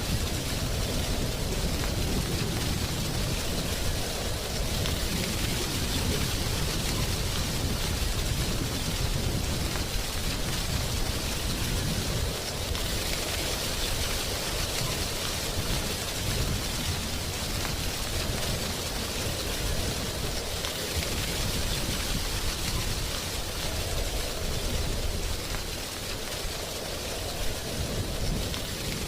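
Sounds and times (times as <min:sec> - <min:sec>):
wind rustling dry leaves: 0:00.0 - 0:29.0.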